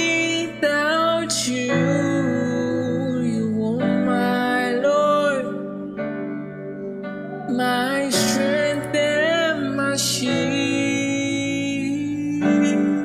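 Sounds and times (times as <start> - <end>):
person singing long bending notes: 0.0 - 13.0.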